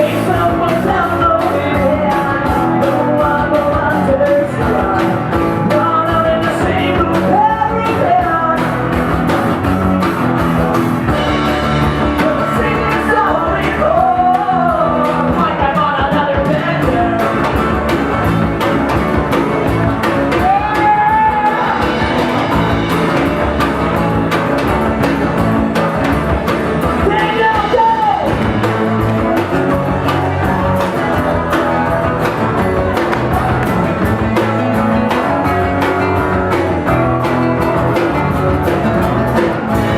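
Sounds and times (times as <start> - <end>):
person singing: 0.0 - 9.0, 11.3 - 23.4, 26.8 - 39.9.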